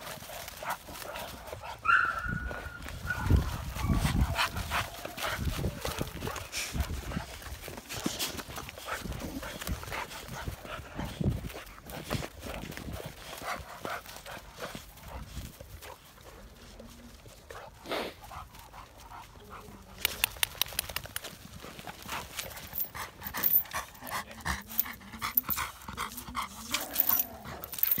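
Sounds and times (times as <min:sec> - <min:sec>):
dog noises: 0:00.0 - 0:28.0
dogs scuffling: 0:00.0 - 0:28.0.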